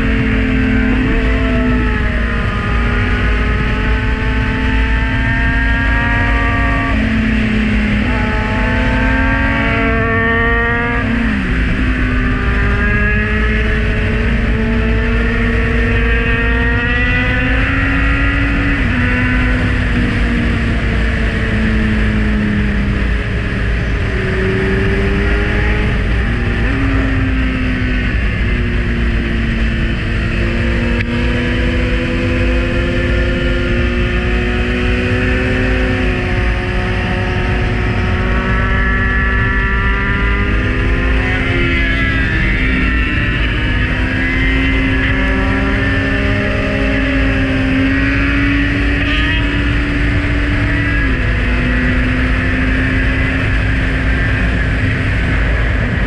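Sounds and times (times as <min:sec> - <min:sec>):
motorcycle engine revving: 0:00.0 - 0:56.0
wind rushing on microphone: 0:00.0 - 0:56.0.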